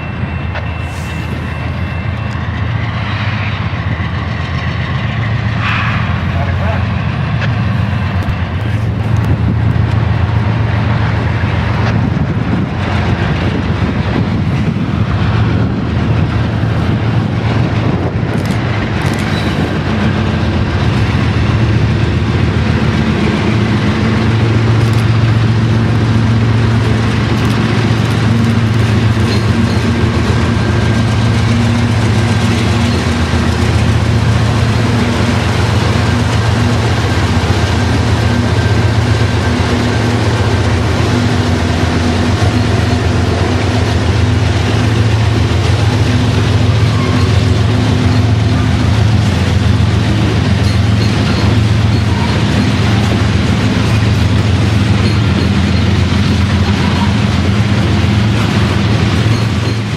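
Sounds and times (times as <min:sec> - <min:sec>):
freight train wheels rattling on rail: 0:00.0 - 0:59.9.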